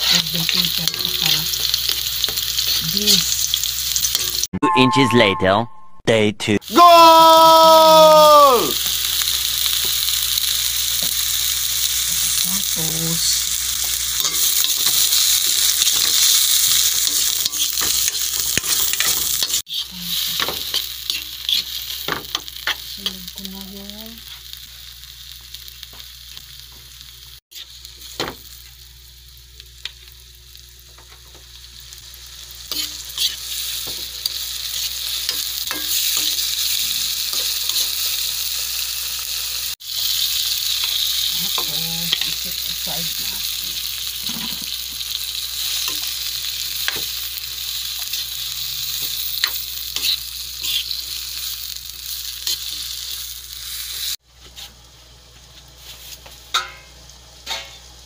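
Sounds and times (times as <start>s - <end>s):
vegetables sizzling in a wok: 0.0s - 4.5s, 6.7s - 58.0s.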